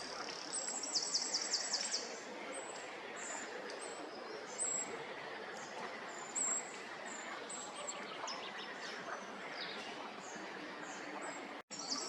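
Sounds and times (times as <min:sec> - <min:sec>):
small birds high-pitched calls: 0:00.0 - 0:04.9, 0:05.6 - 0:12.0.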